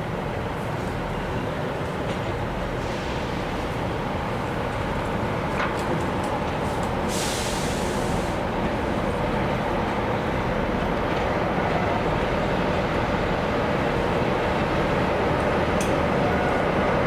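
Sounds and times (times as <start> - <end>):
train rumbling at low speed: 0.0 - 17.0.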